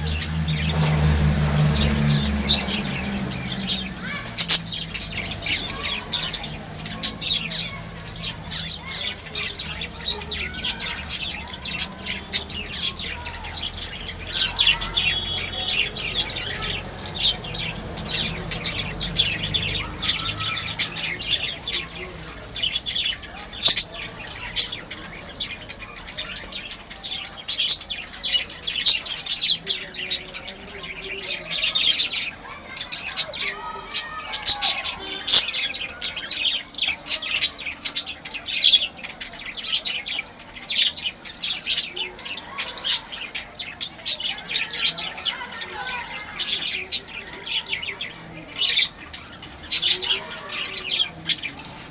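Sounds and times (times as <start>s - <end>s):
flock of birds chirping: 0.0s - 51.9s.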